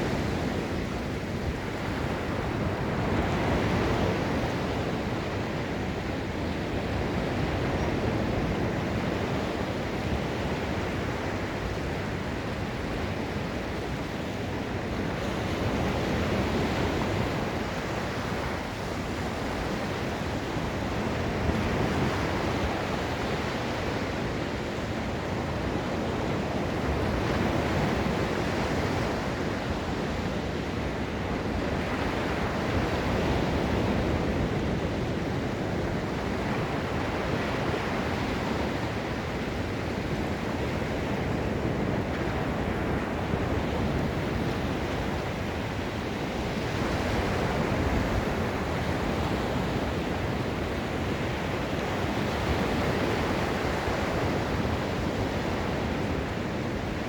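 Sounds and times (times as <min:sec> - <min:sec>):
waves breaking on shore: 0:00.0 - 0:57.0
wind noise on microphone: 0:00.0 - 0:57.0.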